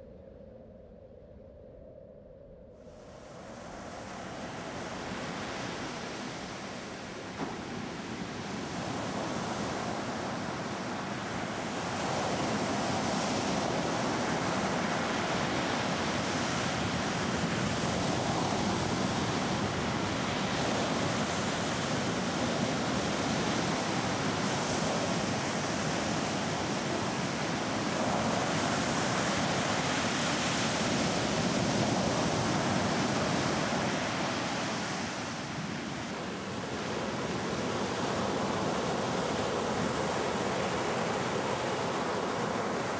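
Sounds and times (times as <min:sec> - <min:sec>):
ocean waves breaking: 0:04.2 - 0:42.9.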